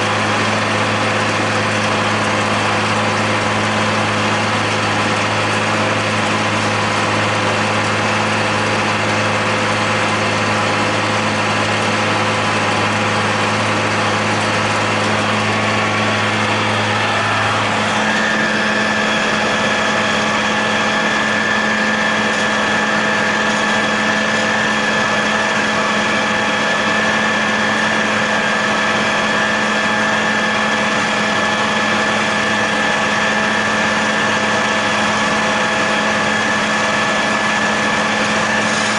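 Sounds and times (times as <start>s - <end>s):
high whine: 0.0s - 38.9s
tractor diesel engine running: 0.0s - 38.9s.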